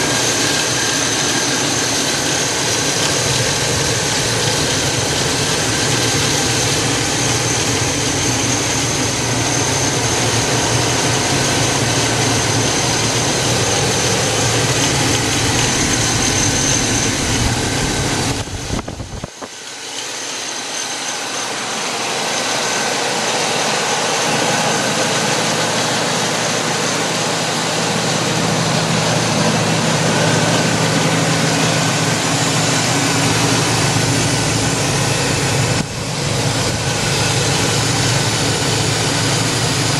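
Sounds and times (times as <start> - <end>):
car engine idling: 0.0 - 20.5, 21.2 - 39.9.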